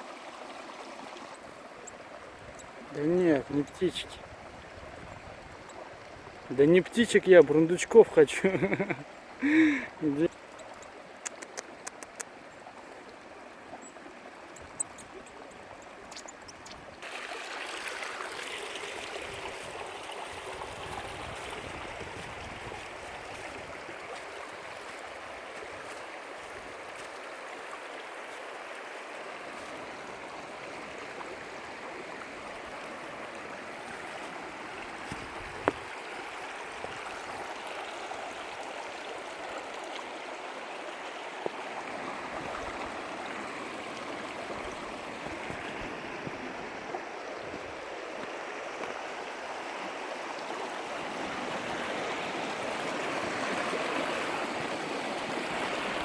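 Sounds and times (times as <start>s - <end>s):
creek running over stones: 0.0s - 56.0s.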